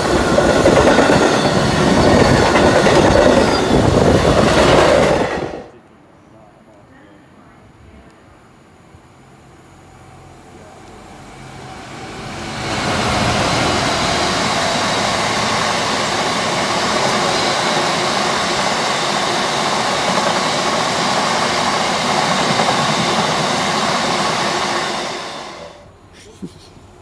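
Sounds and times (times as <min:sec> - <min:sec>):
freight train passing: 0:00.0 - 0:05.9, 0:10.0 - 0:26.0.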